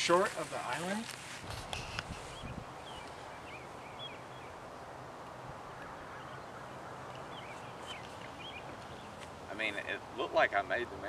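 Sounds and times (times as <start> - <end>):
small birds chirping: 0.4 - 9.9.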